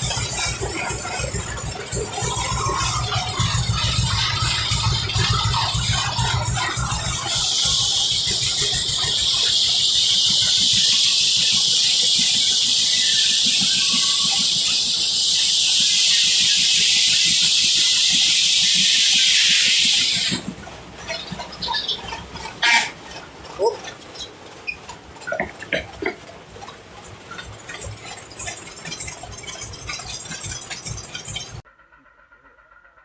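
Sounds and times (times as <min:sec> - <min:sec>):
saw blade cutting log: 0:00.0 - 0:31.6
two-cylinder engine beat: 0:00.0 - 0:31.6.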